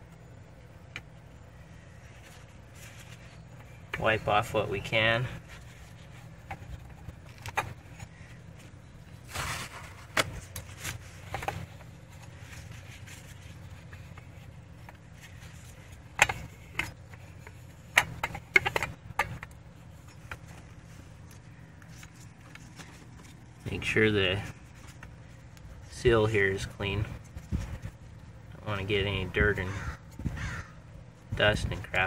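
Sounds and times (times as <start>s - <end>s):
steady low rumble: 0.0s - 32.0s
towel rustling and scraping on metal: 2.0s - 28.3s.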